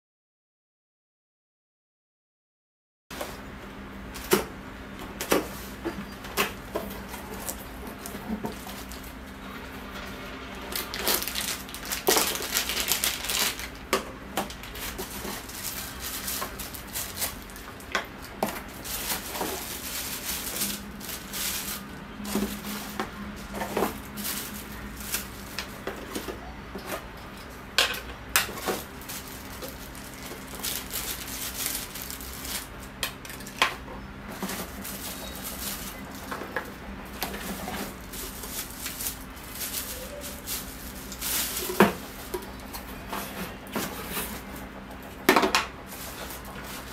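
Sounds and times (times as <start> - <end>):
cardboard and plastic rustling: 4.1 - 27.2, 27.8 - 46.9.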